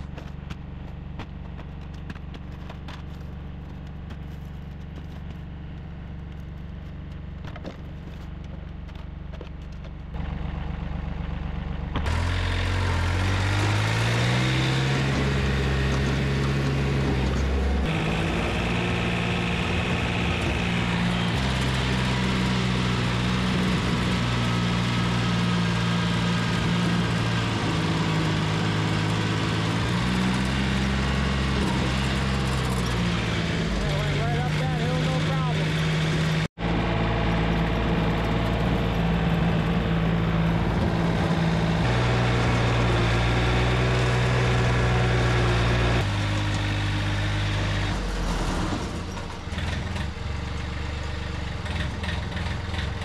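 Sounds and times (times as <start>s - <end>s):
diesel engine idling and revving: 0.0s - 53.0s.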